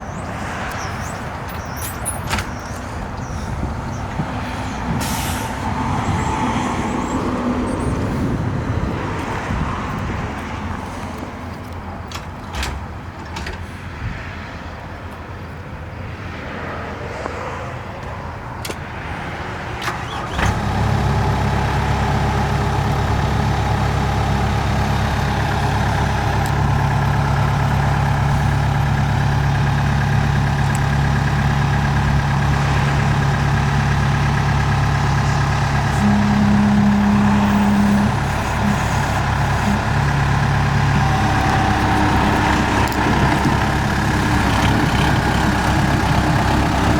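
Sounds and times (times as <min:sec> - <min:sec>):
diesel engine idling: 0:00.0 - 0:12.1, 0:19.9 - 0:46.9.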